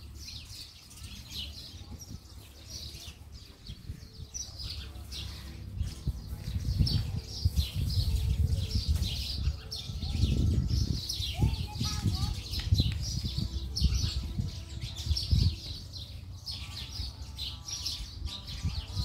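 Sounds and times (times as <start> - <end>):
small birds chirping: 0.0 - 19.0
wind buffeting microphone: 1.3 - 17.2, 17.9 - 19.0.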